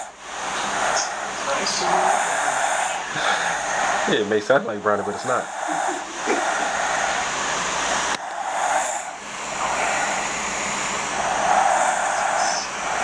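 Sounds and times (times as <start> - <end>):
woman snoring: 0.0 - 4.1, 5.5 - 7.2, 8.2 - 13.0.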